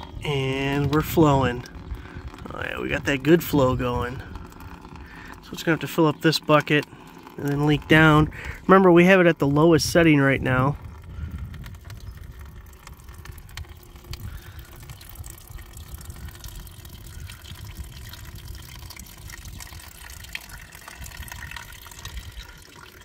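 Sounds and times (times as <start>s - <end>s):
low rumble: 0.0s - 5.8s, 6.8s - 22.7s
small electric pump running: 0.0s - 23.0s
water stream splashing into bucket: 0.0s - 23.0s.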